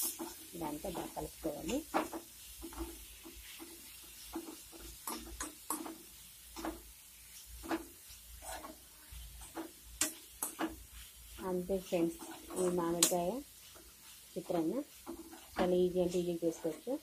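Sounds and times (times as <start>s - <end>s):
spatula scraping a pan: 0.0s - 17.0s.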